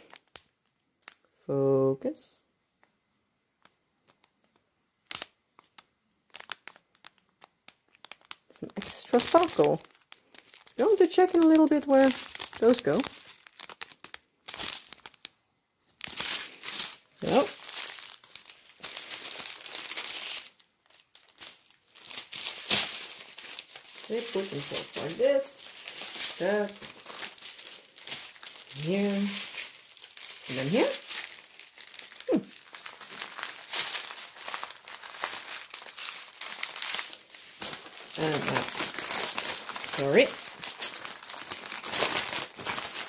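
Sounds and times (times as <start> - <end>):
plastic wrapping crinkling: 0.0 - 1.3, 3.6 - 43.0.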